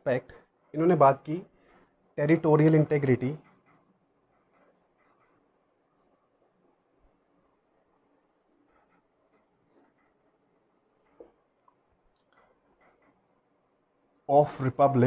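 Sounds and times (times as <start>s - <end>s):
marker writing on whiteboard: 0.7s - 13.5s, 14.1s - 15.0s.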